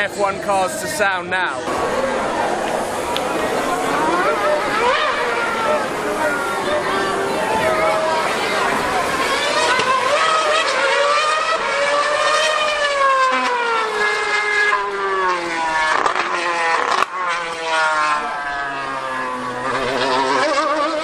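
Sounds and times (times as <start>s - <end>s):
low engine note: 0.0s - 21.0s
race car engine screaming: 1.6s - 21.0s.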